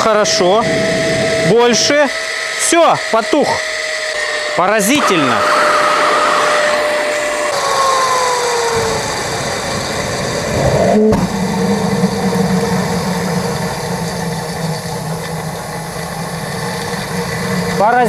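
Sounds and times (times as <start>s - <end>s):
gas turbine whine: 0.0s - 18.0s
low hum: 0.0s - 18.0s.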